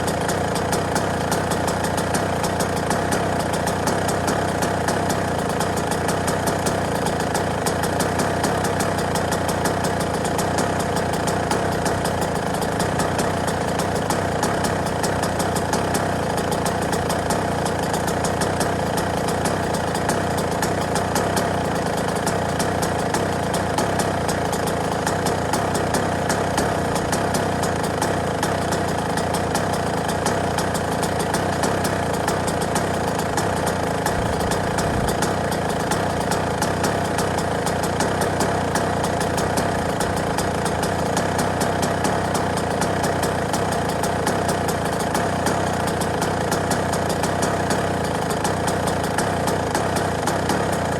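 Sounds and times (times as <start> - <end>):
dirt bike engine idling: 0.0 - 50.9.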